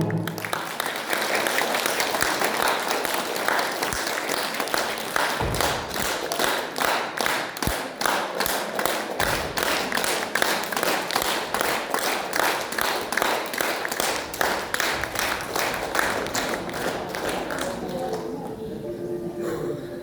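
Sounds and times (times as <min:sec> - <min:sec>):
audience clapping in unison: 0:00.0 - 0:18.6.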